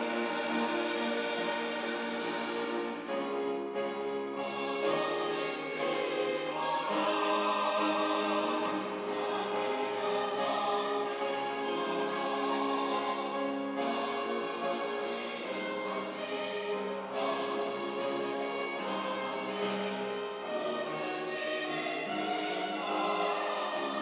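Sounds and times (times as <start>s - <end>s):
choir singing in parts: 0.0s - 24.0s.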